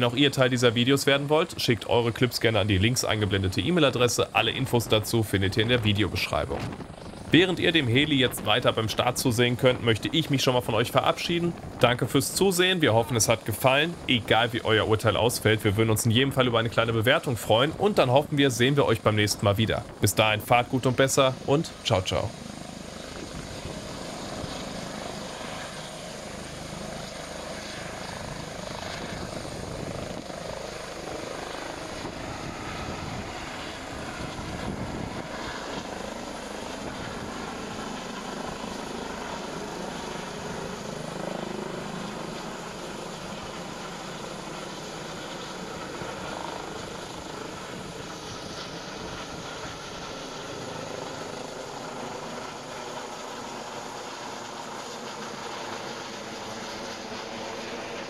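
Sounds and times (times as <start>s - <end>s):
helicopter turbine and rotor: 0.0s - 58.0s.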